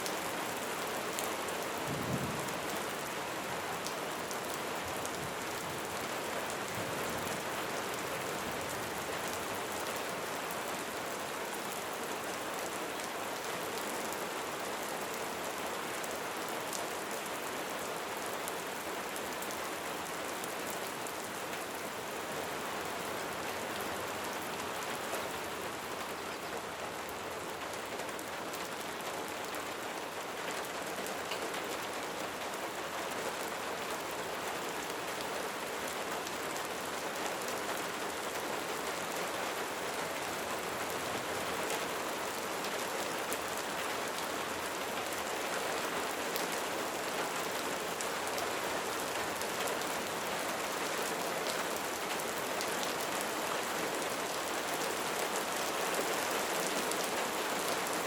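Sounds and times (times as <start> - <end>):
light rain hiss: 0.0 - 58.0.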